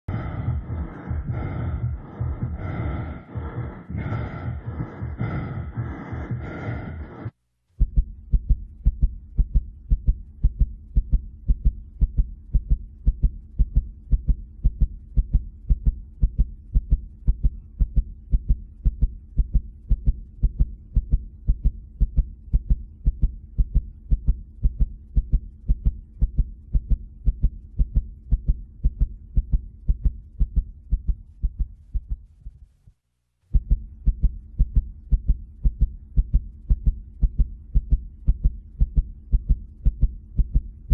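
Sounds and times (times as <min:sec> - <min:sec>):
steady low hum: 0:00.0 - 0:40.9
heartbeat-like thumping: 0:00.1 - 0:32.7, 0:33.5 - 0:40.9.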